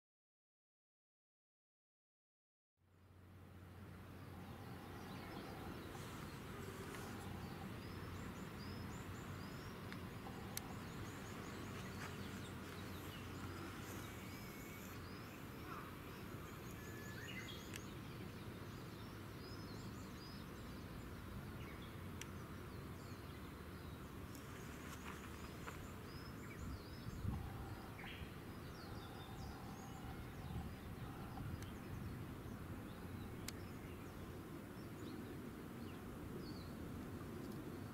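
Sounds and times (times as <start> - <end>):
small birds chirping: 4.3 - 37.9.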